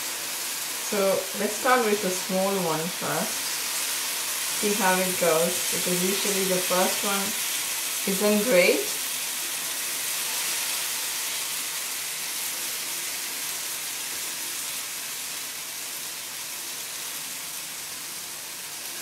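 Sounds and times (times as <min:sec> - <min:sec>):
batter sizzling in a frying pan: 0:00.0 - 0:19.0.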